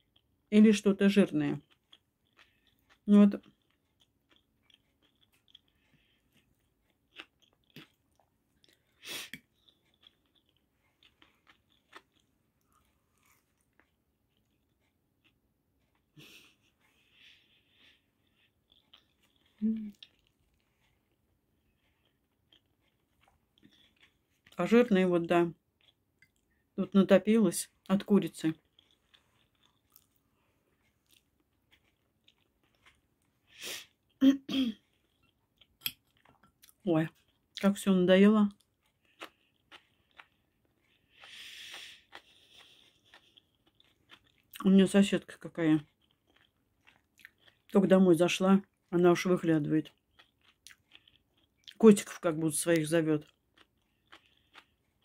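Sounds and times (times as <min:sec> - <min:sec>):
chewing: 0:01.5 - 0:24.6, 0:25.8 - 0:26.7, 0:28.5 - 0:34.2, 0:34.8 - 0:37.6, 0:38.5 - 0:44.6, 0:45.2 - 0:47.8, 0:48.6 - 0:51.9, 0:53.2 - 0:55.0.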